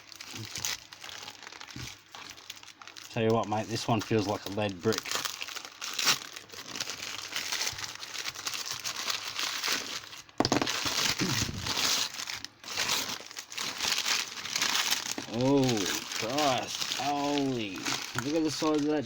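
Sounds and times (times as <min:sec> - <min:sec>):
paper crinkling and tearing: 0:00.0 - 0:19.0.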